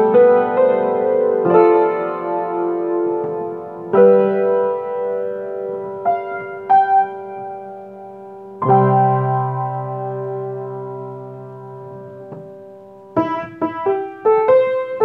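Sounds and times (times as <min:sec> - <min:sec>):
keyboard playing slow chords: 0:00.0 - 0:15.0.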